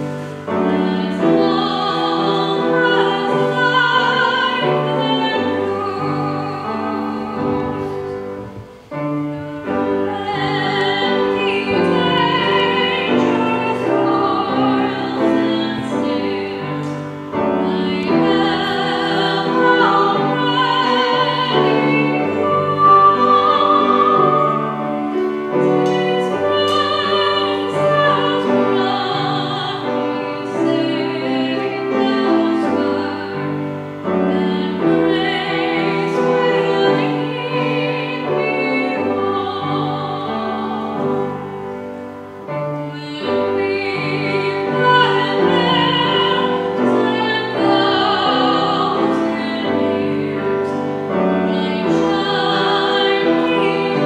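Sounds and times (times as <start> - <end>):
keyboard accompaniment: 0.0 - 54.0
person singing classical with vibrato: 0.0 - 54.0.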